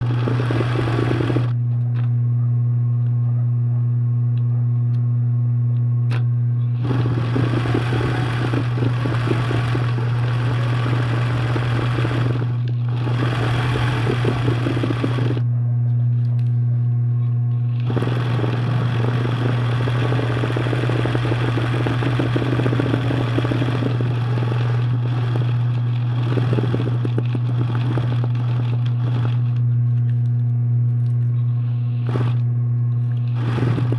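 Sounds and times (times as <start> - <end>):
low hum: 0.0 - 33.9.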